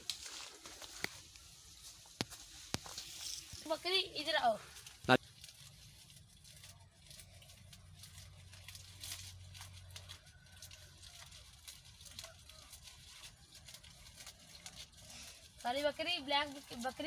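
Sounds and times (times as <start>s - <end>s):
grass and leaves rustling: 0.0s - 17.0s.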